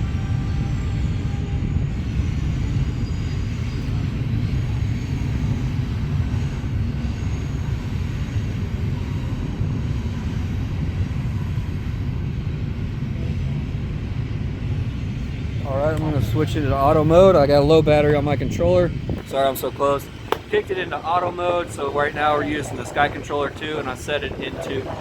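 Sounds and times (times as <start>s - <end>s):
drone propeller motor whine: 0.0s - 25.0s
wind buffeting microphone: 0.0s - 25.0s.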